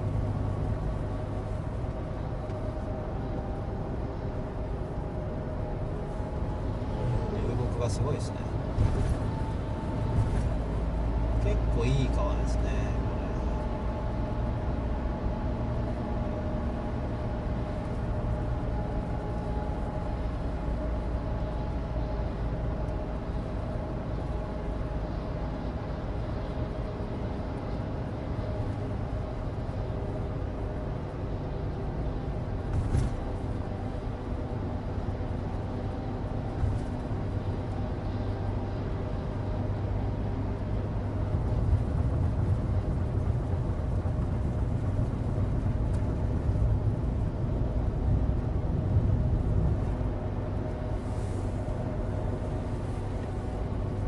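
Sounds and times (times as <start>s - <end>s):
car engine hum: 0.0s - 54.0s
tyre road noise: 0.0s - 54.0s.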